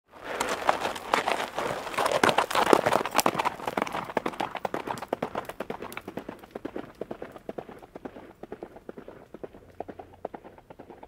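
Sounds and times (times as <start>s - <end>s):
galloping hoofbeats: 0.2s - 11.0s.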